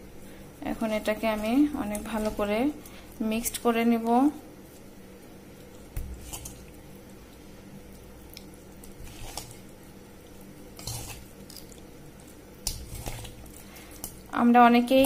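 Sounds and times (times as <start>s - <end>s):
low steady hum: 0.0s - 15.0s
wet squishing of hand mixing: 0.0s - 15.0s.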